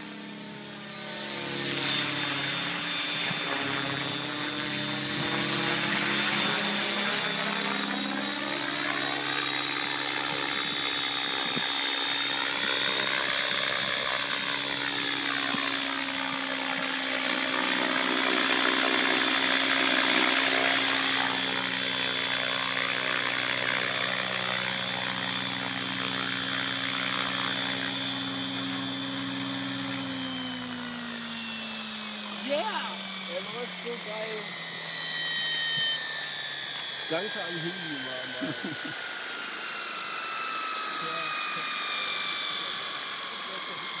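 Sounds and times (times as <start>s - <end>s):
rc helicopter rotor whine: 0.0s - 44.0s.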